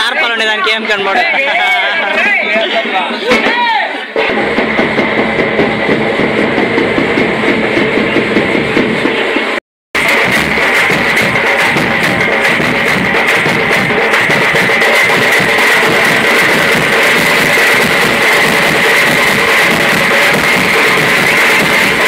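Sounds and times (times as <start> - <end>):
dance music with fast drum beat: 4.1 - 22.0.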